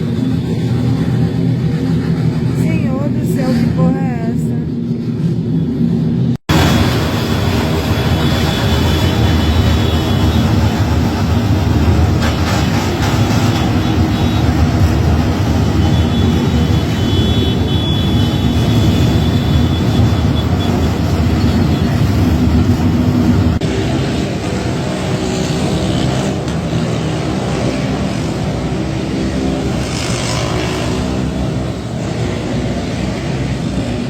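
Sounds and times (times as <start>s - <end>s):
motorcycles passing: 0.0s - 5.3s, 6.5s - 34.0s.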